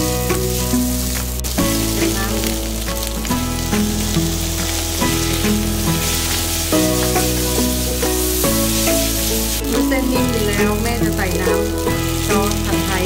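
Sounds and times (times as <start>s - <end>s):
background music with bass: 0.0s - 13.0s
noodles sizzling in a frying pan: 0.0s - 13.0s.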